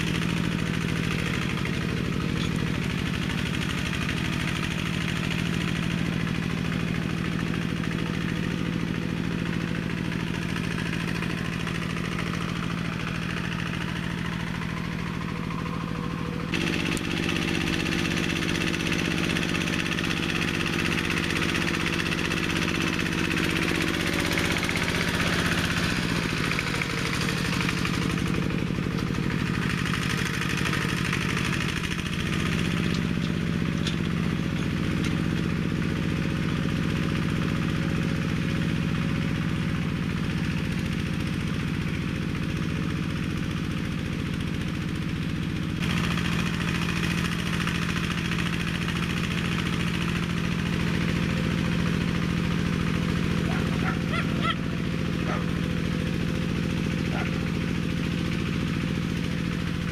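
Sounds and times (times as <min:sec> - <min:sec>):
small tractor engine under load: 0:00.0 - 0:59.9.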